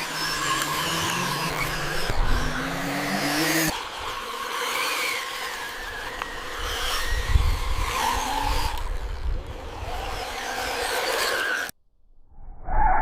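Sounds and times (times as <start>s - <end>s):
model machine motors whining: 0.0s - 11.7s.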